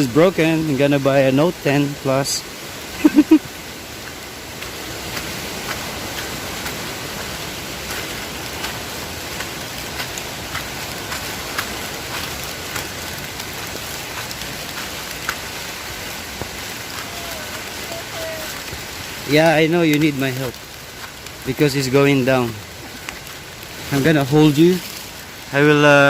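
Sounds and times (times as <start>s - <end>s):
raindrops ticking on microphone: 0.0s - 26.0s
steady rain hiss: 0.0s - 26.0s.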